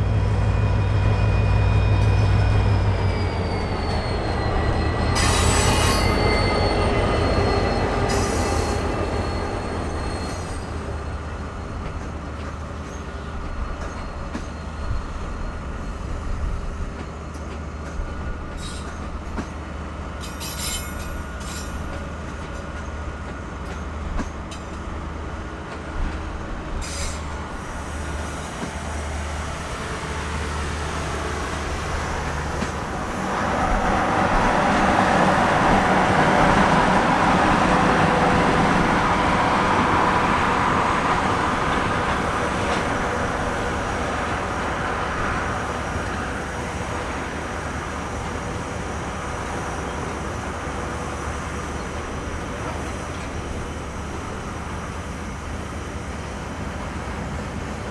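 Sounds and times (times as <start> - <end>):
freight train rumbling by: 0.0 - 57.9
wheels squealing on rails: 0.0 - 57.9.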